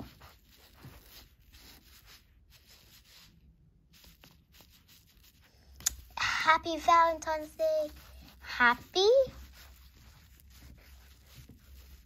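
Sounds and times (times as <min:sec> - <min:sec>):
marker scratching on paper: 0:00.0 - 0:12.0.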